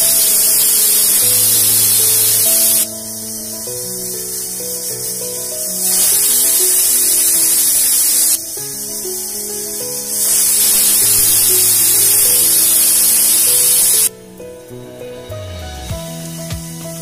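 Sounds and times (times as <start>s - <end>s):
pressure cooker whistle hissing: 0.0s - 14.1s.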